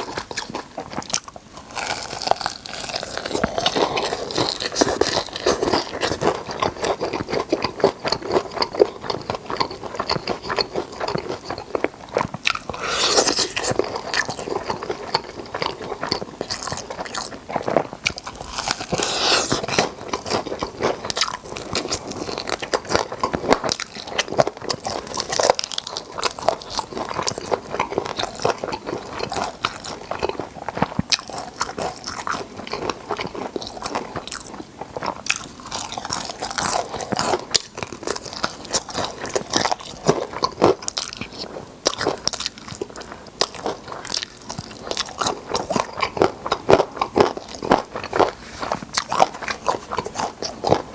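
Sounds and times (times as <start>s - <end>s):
crunching fried chicken: 0.0s - 50.9s.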